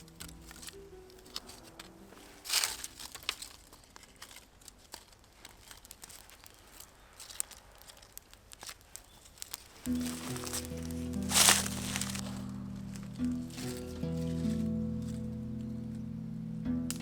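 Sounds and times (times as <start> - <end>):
dry material rustling: 0.0 - 15.4.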